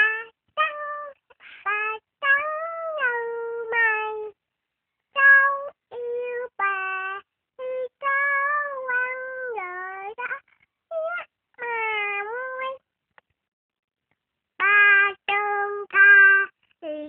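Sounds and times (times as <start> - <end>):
girl singing unaccompanied: 0.0 - 4.4, 5.0 - 12.9, 14.6 - 17.0.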